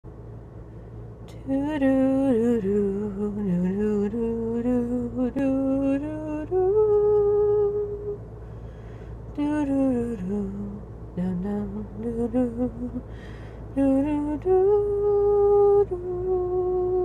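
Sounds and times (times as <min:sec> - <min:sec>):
woman singing wordlessly: 0:01.3 - 0:08.2, 0:09.3 - 0:13.1, 0:13.7 - 0:17.0.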